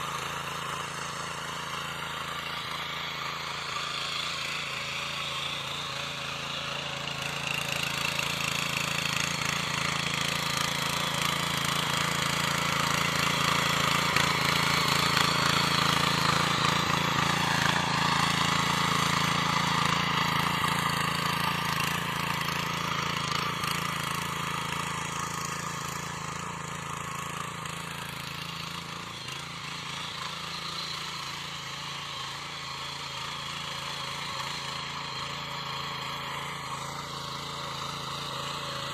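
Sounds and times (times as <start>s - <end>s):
power weeder engine running: 0.0s - 38.9s.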